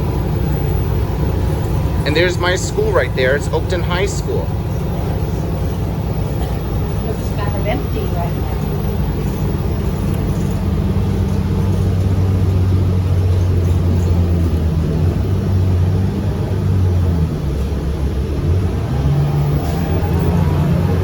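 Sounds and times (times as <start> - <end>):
bus engine hum: 0.0 - 21.0
road noise: 0.0 - 21.0.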